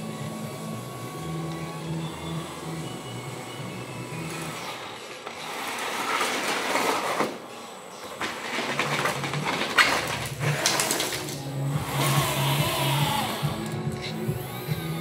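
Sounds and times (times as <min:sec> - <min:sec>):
electric motors whirring: 0:00.0 - 0:15.0.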